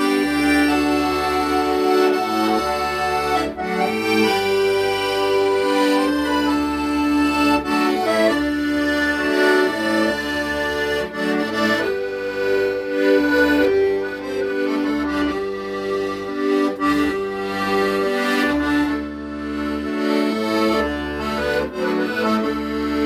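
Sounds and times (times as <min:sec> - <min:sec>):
accordion playing slow melody: 0:00.0 - 0:23.0.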